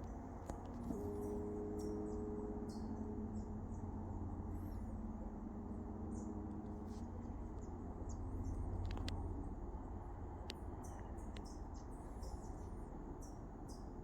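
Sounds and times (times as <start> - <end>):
low humming tone: 0.0 - 14.0.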